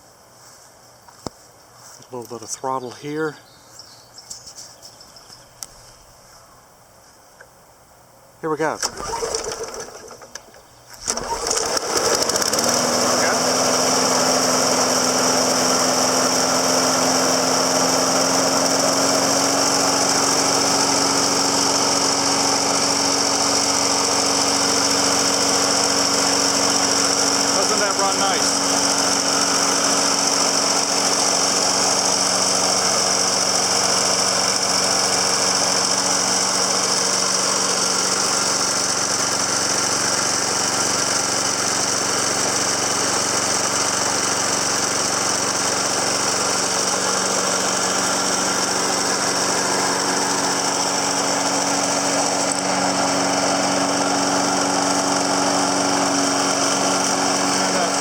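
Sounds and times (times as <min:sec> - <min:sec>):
lawn mower engine running: 0:08.6 - 0:58.0.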